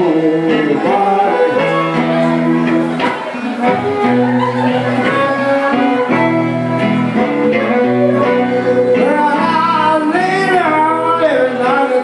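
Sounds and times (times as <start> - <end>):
guitar picking: 0.0 - 12.0
harmonica: 0.0 - 12.0.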